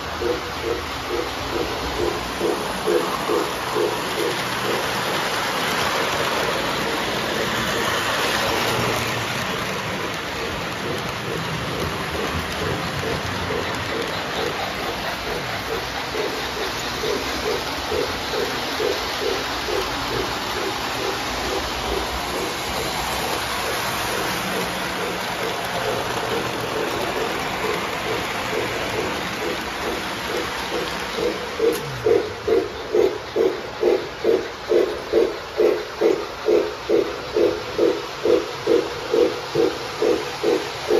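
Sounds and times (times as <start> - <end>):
model train wheels rumbling on rails: 0.0 - 40.9.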